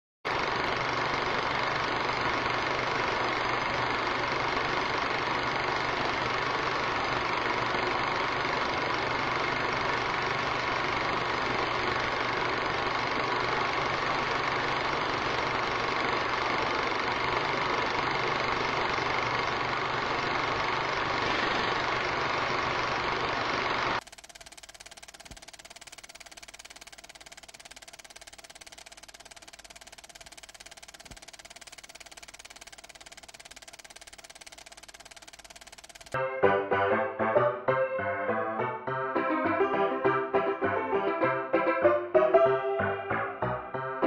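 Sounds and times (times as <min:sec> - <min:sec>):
machine running with whine: 0:00.3 - 0:36.2.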